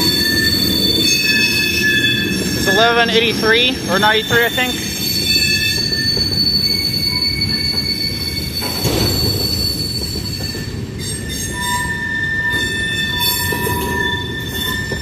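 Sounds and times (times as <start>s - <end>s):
high-pitched wheel squeal: 0.0s - 2.9s, 4.0s - 15.0s
low rumble of train wheels: 0.0s - 15.0s.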